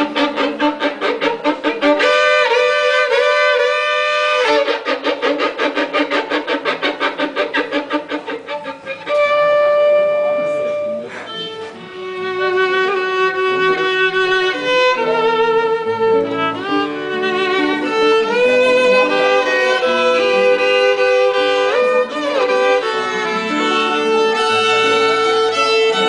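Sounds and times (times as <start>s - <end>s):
lower accompanying notes: 0.0s - 26.0s
violin playing hymn melody: 0.0s - 26.0s.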